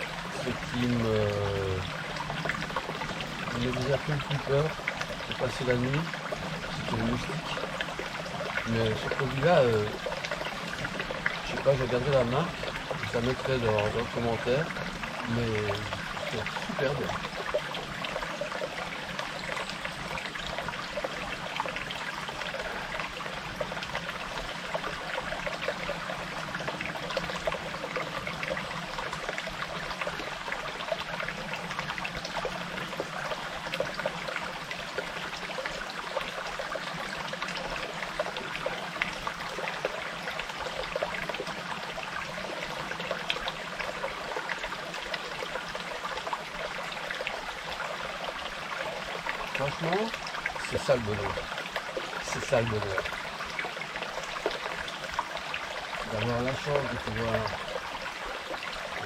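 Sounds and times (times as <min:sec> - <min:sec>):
forest stream trickling: 0:00.0 - 0:59.0.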